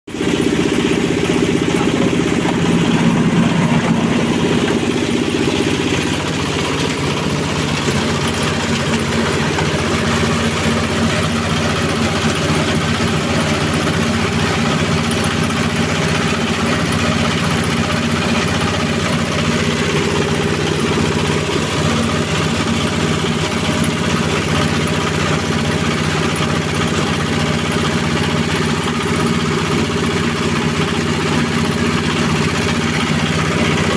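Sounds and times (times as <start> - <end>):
grinding mill machine hum: 0.1 - 33.9.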